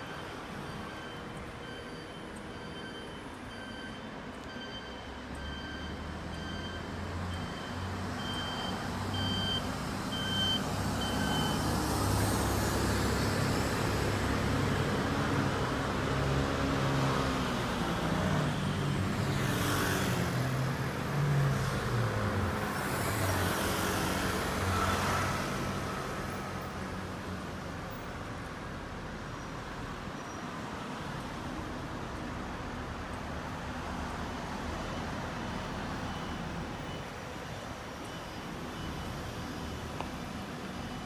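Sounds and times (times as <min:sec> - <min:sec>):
scooters and cars passing: 0:05.0 - 0:41.0.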